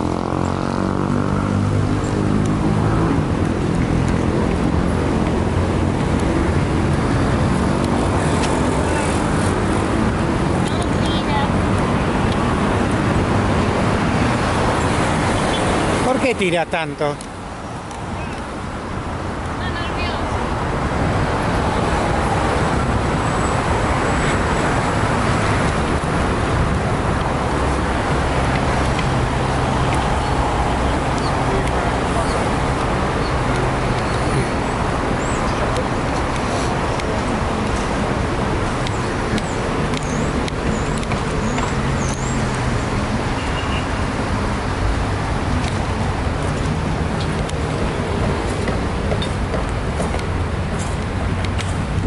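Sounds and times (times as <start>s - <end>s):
cars on city street: 0.0s - 52.0s
road traffic noise: 0.0s - 52.0s.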